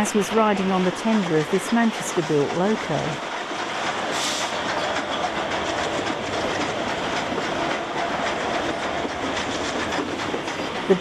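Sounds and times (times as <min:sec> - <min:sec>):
train running on track: 0:00.0 - 0:11.0.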